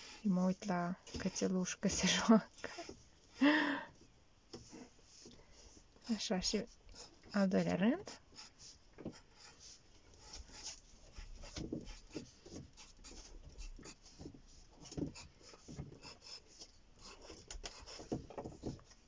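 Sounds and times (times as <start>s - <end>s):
pencil scratching on paper: 0.0s - 3.0s, 4.6s - 18.9s.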